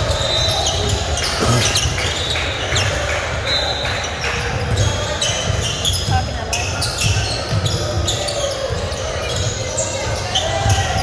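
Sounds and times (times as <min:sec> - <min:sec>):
sneaker squeaks: 0:00.0 - 0:02.9, 0:03.5 - 0:11.0.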